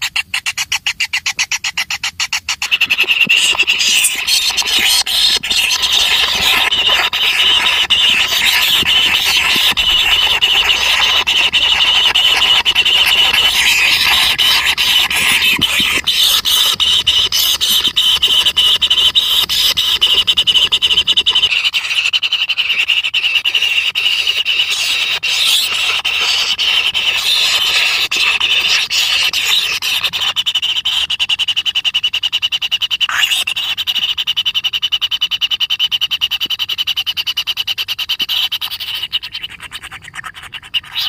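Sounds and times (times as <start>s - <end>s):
nestlings begging: 0.0s - 41.0s.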